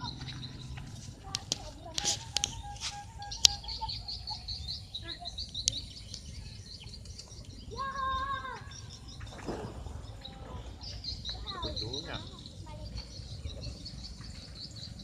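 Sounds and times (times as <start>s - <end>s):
birds chirping: 0.0s - 15.0s
drawn-out bird call: 0.0s - 15.0s.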